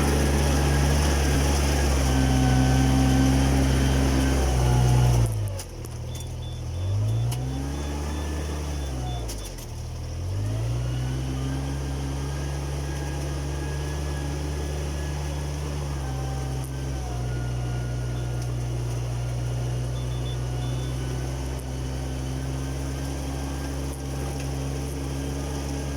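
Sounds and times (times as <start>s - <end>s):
engine running: 0.0s - 25.9s.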